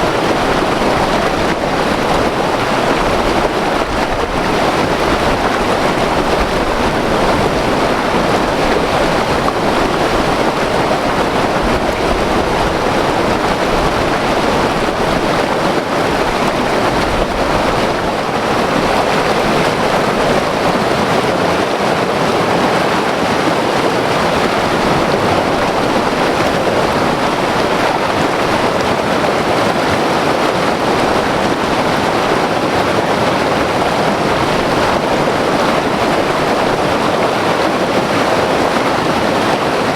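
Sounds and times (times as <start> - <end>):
river rushing over rocks: 0.0 - 39.9
wind buffeting microphone: 0.0 - 39.9.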